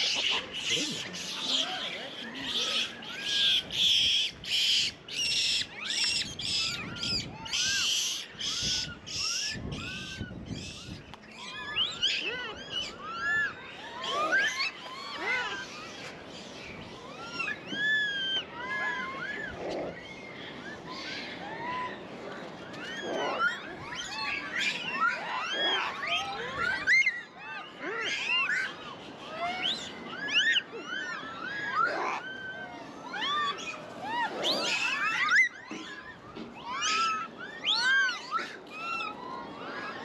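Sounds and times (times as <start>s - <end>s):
monkeys cooing and chirping: 0.0s - 40.0s.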